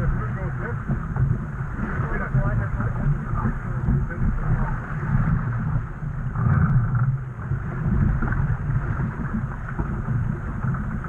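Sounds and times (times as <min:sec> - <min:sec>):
water rushing along a hull: 0:00.0 - 0:11.0
wind buffeting the microphone: 0:00.0 - 0:11.0.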